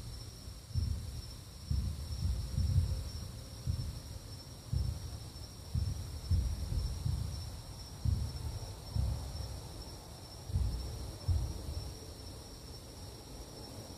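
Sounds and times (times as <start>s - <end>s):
deep rumbling booms: 0.0s - 11.9s
crickets chirring: 0.0s - 13.9s.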